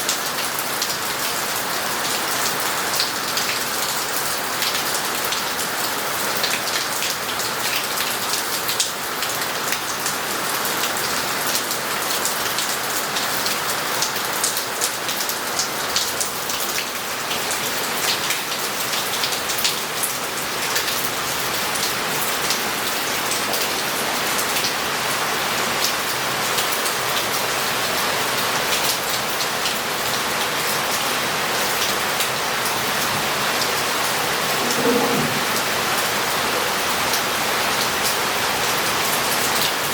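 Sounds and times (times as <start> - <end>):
steady hiss of rain: 0.0 - 39.9.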